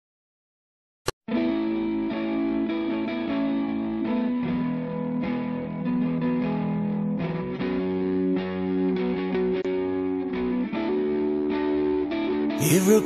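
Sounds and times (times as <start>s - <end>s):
guitar-led song without vocals: 1.3s - 13.0s.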